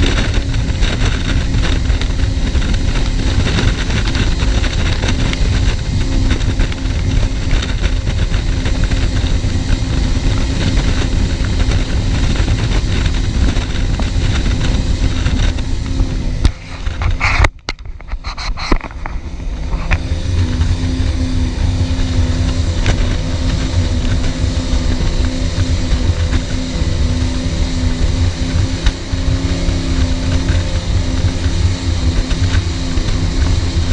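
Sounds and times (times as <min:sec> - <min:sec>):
powerboat engine rumble: 0:00.0 - 0:33.9
rushing wind and water: 0:00.0 - 0:33.9.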